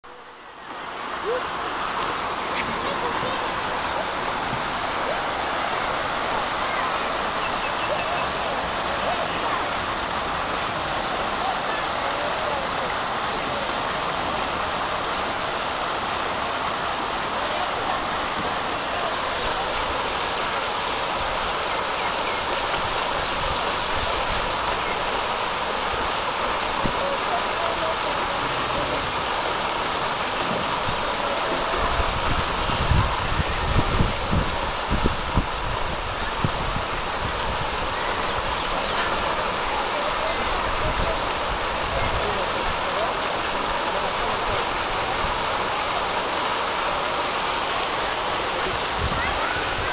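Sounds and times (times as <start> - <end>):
fountain water splashing: 0.1 - 49.9.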